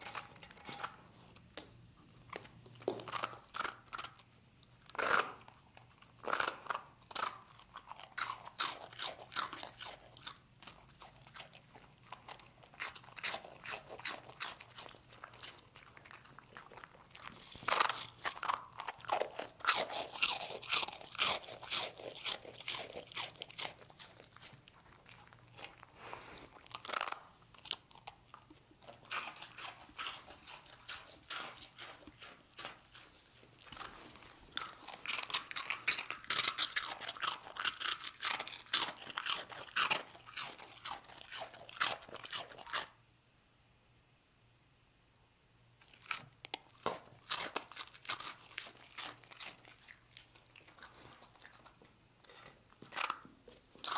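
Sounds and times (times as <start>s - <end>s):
dog crunching dry food: 0.0s - 43.0s, 45.8s - 53.9s.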